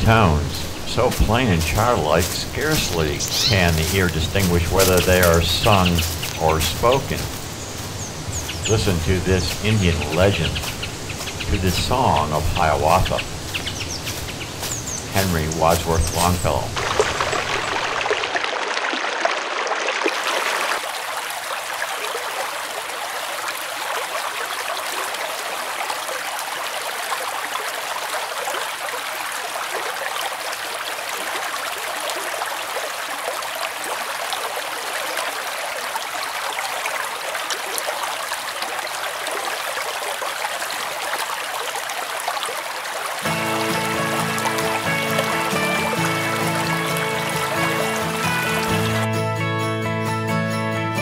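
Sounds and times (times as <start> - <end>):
stream water rushing: 0.0 - 49.2.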